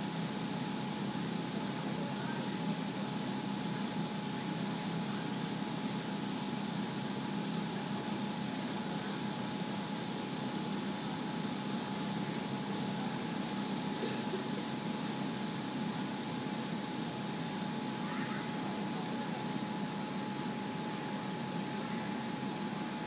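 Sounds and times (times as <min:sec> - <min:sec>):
mechanical hum and hiss: 0:00.0 - 0:23.0
thin steady whine: 0:00.0 - 0:23.0.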